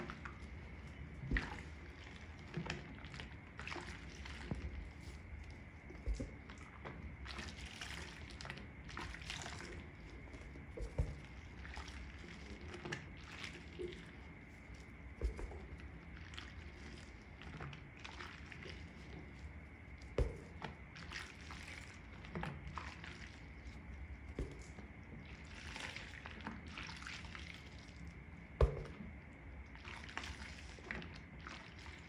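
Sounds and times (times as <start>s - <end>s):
water sloshing and dribbling: 0.0s - 32.0s
wet sponges squelching: 0.0s - 32.0s.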